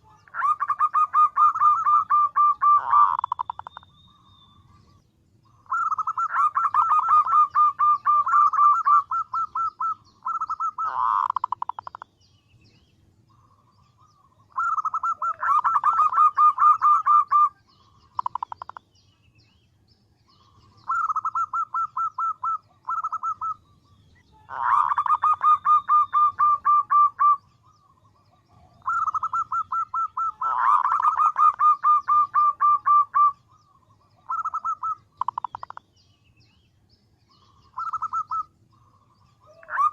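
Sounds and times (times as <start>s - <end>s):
dove calling: 0.0s - 19.6s, 20.3s - 36.6s, 37.2s - 39.9s.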